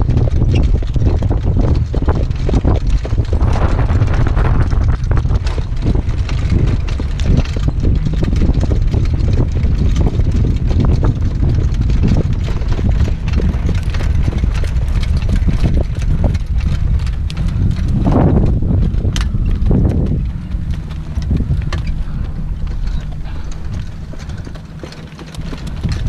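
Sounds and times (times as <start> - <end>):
horse hoofbeats on dirt: 0.0 - 26.0
wind rumble on microphone: 0.0 - 26.0.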